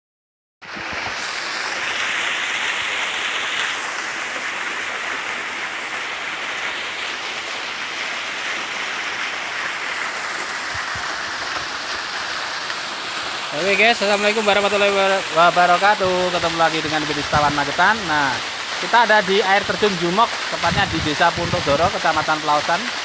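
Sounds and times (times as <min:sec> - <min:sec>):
waterfall splashing: 0:00.6 - 0:23.0.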